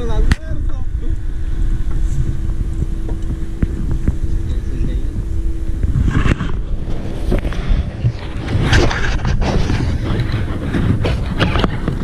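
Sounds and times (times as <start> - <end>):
steady hum: 0.0 - 12.0
wind on microphone: 0.0 - 12.0.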